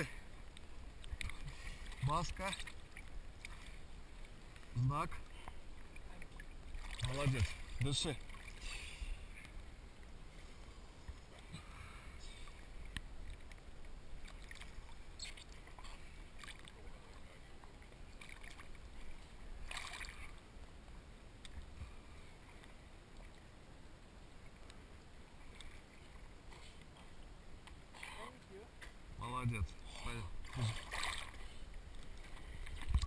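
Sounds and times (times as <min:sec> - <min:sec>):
small waves lapping: 0:00.0 - 0:33.0
water splashes: 0:00.0 - 0:33.0.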